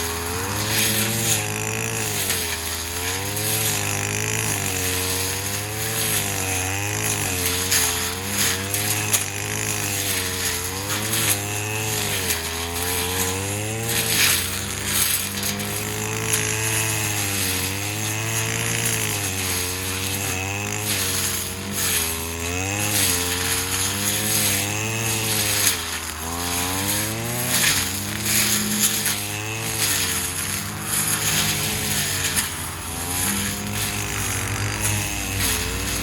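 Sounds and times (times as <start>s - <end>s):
brush cutter engine running: 0.0s - 36.0s
grass swishing as cut: 0.0s - 36.0s.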